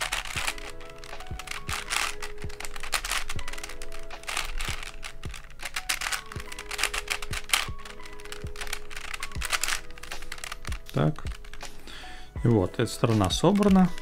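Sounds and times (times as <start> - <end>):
plastic puzzle clicking: 0.0 - 11.9, 13.0 - 14.0
background music with beat: 0.0 - 14.0.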